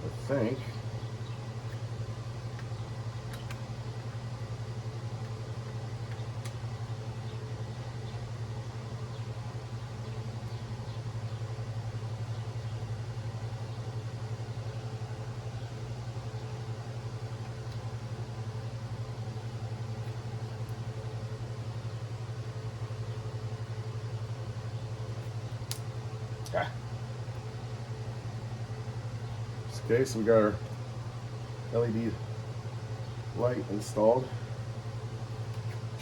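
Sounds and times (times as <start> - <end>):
mechanical hum with flutter: 0.0 - 36.0.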